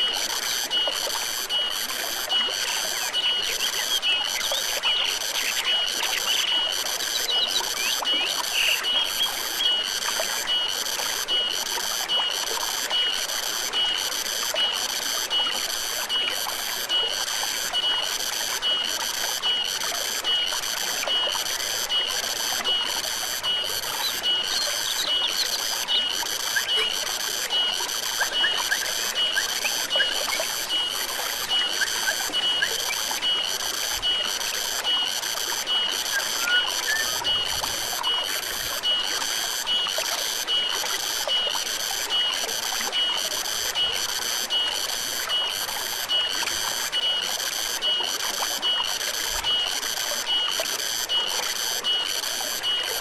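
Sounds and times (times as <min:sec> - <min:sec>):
insect high pulsed chirps: 0:00.0 - 0:53.0
stream running: 0:00.0 - 0:53.0.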